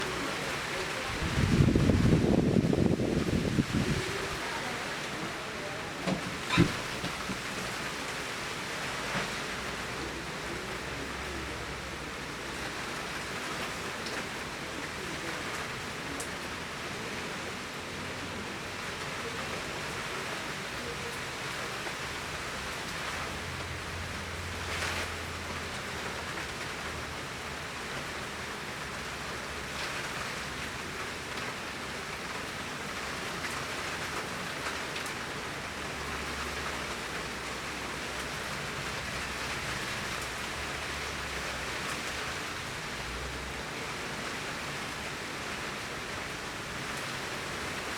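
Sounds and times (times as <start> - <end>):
heavy rain hissing: 0.0 - 47.9.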